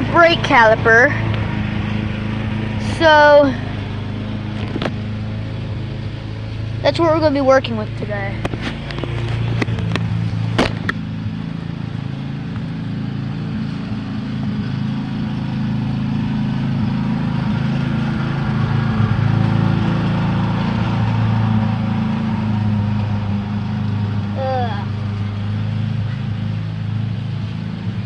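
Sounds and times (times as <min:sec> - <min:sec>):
lawn mower engine: 0:00.0 - 0:28.0.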